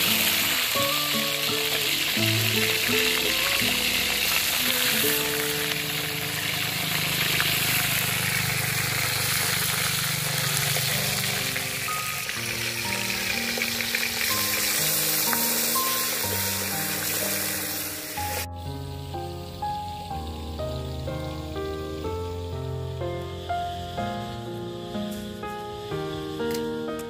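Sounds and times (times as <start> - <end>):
background music: 0.0 - 6.8, 11.2 - 27.0
intestines sizzling in a wok: 0.0 - 27.0.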